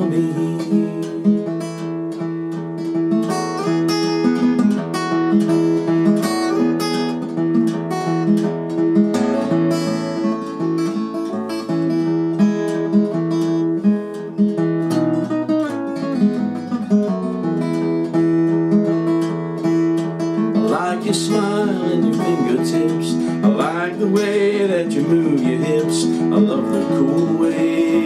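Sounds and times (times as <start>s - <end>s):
fingerstyle acoustic guitar: 0.0s - 28.0s.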